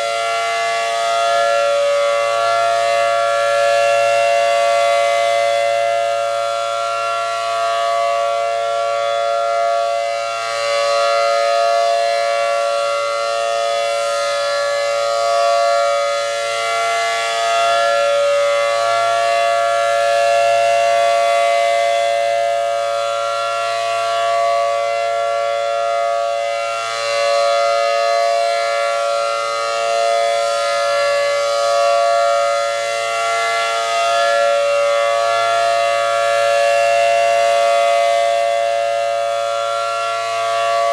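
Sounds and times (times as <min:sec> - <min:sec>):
rotating siren wailing: 0:00.0 - 0:40.9.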